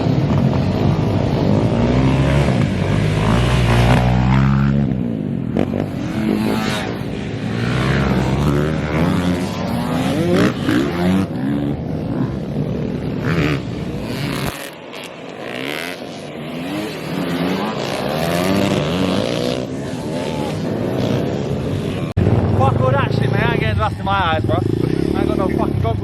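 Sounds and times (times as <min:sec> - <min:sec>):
pit bike engines revving: 0:00.0 - 0:26.0.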